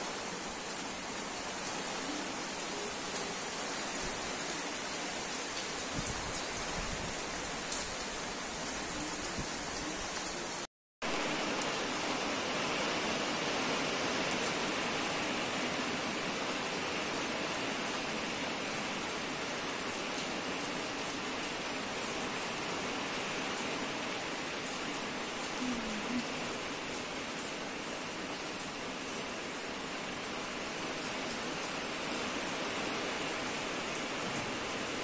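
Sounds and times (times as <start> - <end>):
heavy rain on concrete roof: 0.0 - 35.0.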